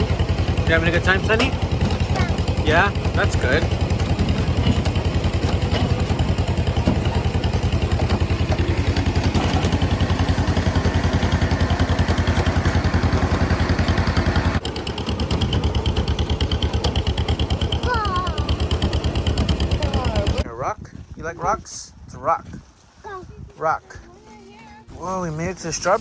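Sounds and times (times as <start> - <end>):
tractor engine running: 0.0 - 20.5, 23.1 - 26.0.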